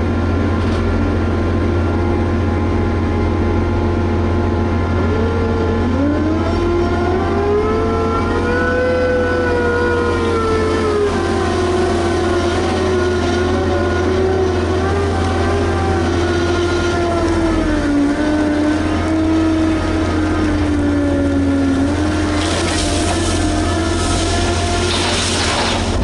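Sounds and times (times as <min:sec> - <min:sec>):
excavator diesel engine under load: 0:00.0 - 0:26.0
low hum: 0:00.0 - 0:26.0.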